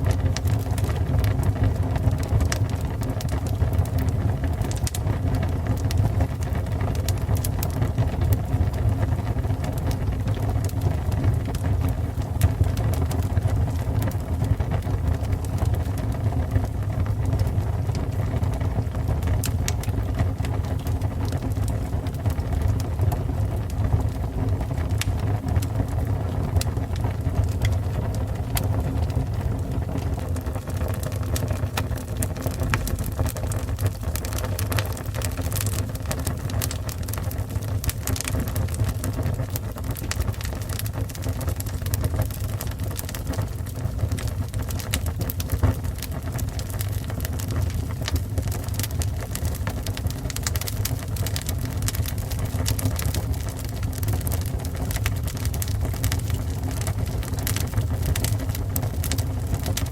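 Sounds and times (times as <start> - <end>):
fire crackling and popping: 0.0 - 59.9
low roar of flames: 0.0 - 59.9.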